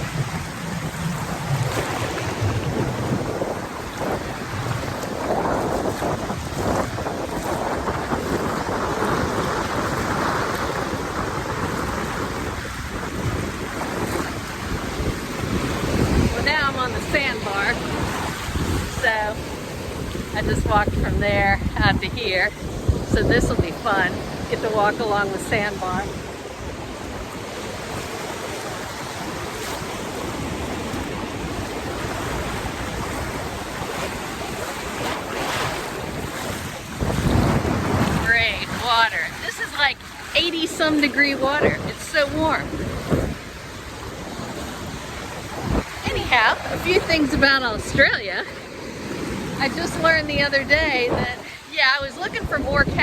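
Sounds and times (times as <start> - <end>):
surf washing: 0.0 - 53.0
wind buffeting microphone: 0.0 - 53.0.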